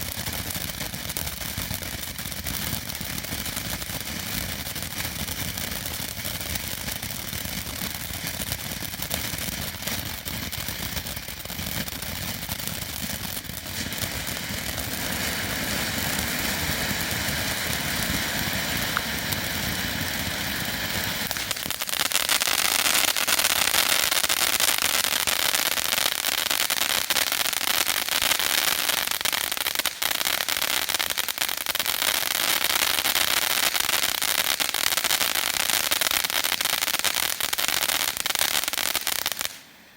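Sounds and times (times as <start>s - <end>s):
firework crackle: 0.0s - 39.9s
firework fountain hissing: 0.0s - 39.9s.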